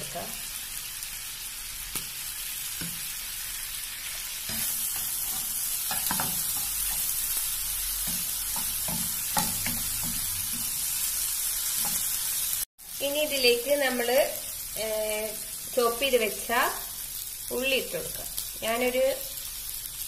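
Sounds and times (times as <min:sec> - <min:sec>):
prawns sizzling in oil: 0:00.0 - 0:20.0.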